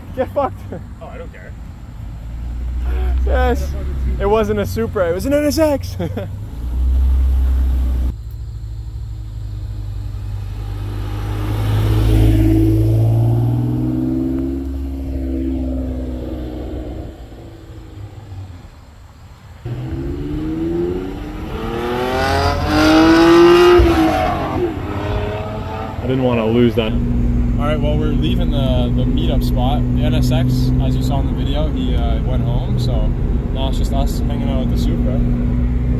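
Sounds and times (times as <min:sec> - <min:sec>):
sports car engine accelerating: 0:01.5 - 0:19.0, 0:19.6 - 0:35.9.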